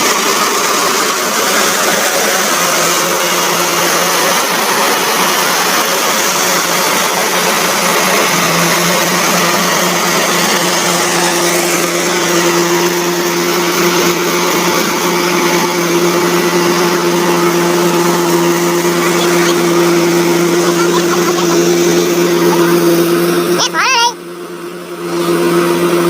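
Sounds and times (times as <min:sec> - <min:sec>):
combine harvester mechanical din: 0:00.0 - 0:23.7.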